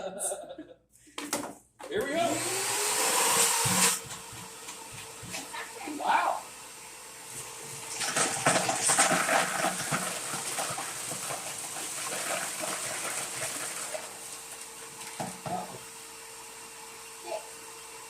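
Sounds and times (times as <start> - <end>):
wet dry vacuum whining: 1.9 - 18.0.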